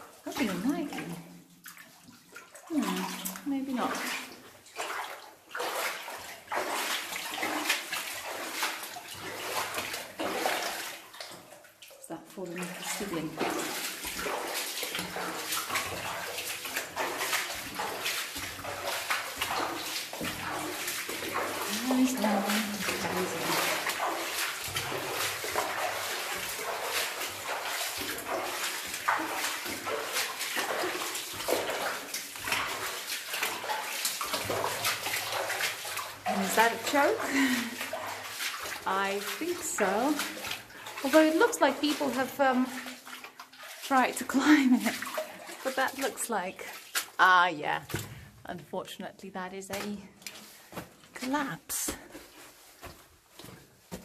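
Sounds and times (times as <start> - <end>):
person wading through water: 0.0 - 48.8, 49.6 - 54.0.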